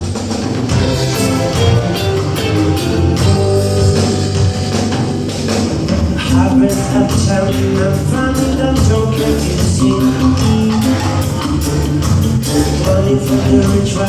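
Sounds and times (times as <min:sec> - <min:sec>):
drum kit beat: 0:00.0 - 0:14.0
electric guitar: 0:00.0 - 0:14.0
heavy bass line: 0:00.6 - 0:14.0.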